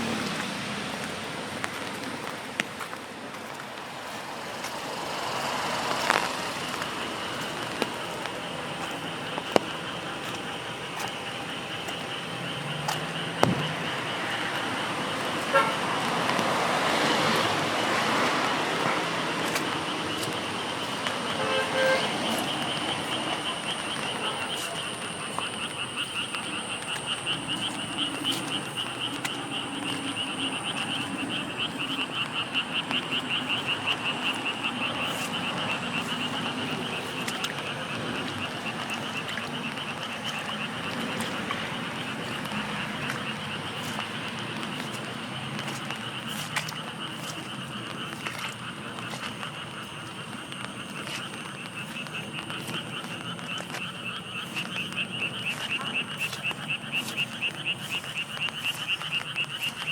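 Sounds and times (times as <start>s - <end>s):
car passing on wet road: 0.0s - 59.9s
raindrop ticks: 0.0s - 59.9s
steady rain: 0.0s - 59.9s.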